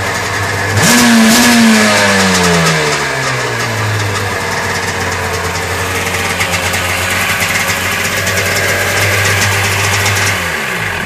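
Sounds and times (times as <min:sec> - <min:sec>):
personal watercraft engine idling: 0:00.0 - 0:11.0.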